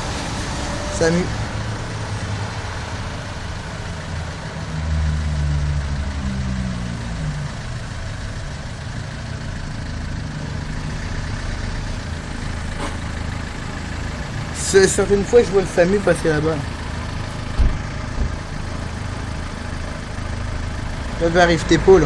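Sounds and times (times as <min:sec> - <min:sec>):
traffic on wet street: 0:00.0 - 0:22.0.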